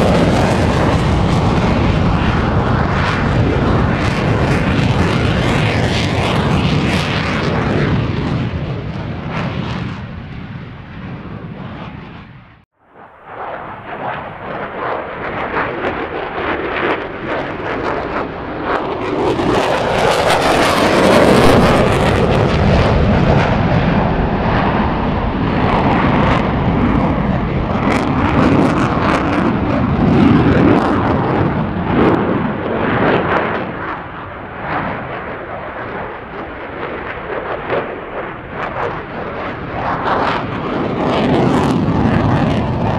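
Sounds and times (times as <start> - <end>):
fighter jet afterburner roar: 0.0 - 42.9.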